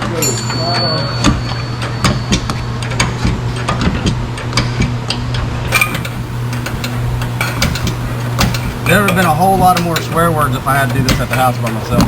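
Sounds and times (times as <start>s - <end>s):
hand tools knocking on metal: 0.0s - 12.0s
steady low hum: 0.0s - 12.0s.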